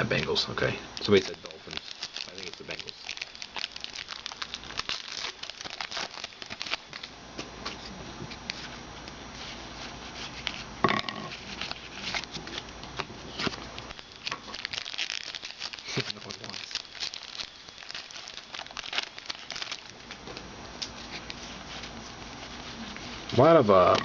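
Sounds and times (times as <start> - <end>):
card pack wrappers crinkling: 1.0 - 7.8, 11.3 - 24.0.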